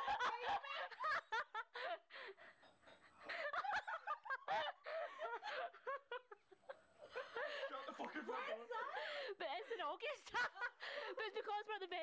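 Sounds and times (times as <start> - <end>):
people laughing: 0.0 - 11.4.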